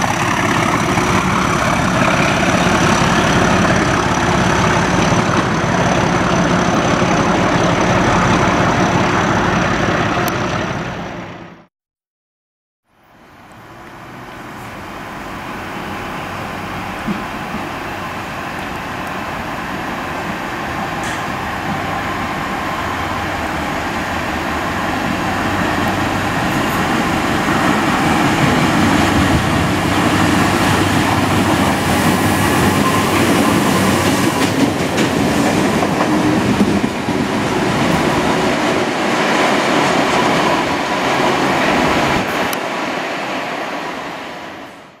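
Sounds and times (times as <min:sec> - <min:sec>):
train wheels rushing on rail: 0:00.0 - 0:11.6, 0:13.6 - 0:45.0.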